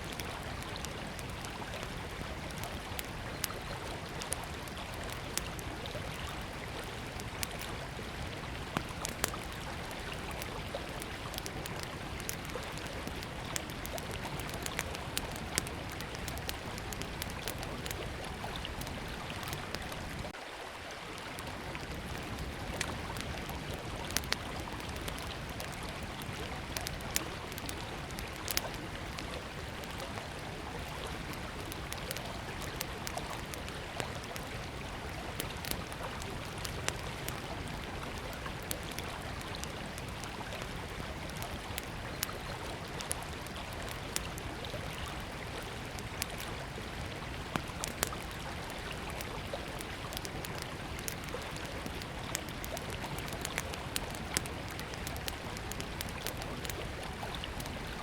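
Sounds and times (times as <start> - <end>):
campfire crackling and popping: 0.0 - 20.4, 21.1 - 58.0.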